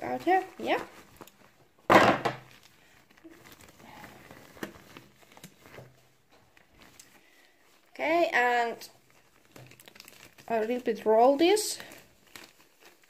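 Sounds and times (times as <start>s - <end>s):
rubber glove rustling: 0.0s - 13.0s.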